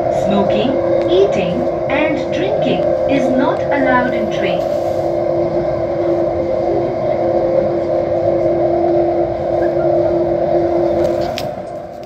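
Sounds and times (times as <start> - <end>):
steady tone: 0.0 - 11.8
train rumbling at speed: 0.0 - 12.0.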